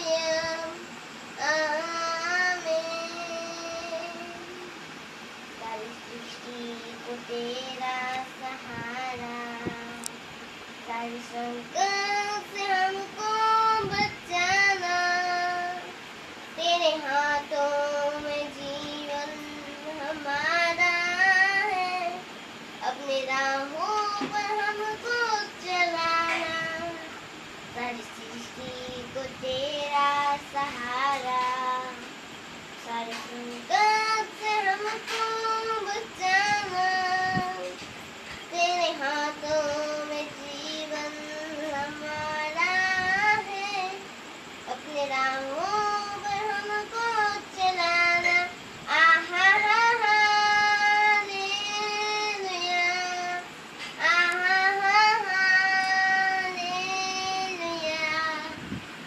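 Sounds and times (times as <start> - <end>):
boy singing unaccompanied: 0.0 - 59.0.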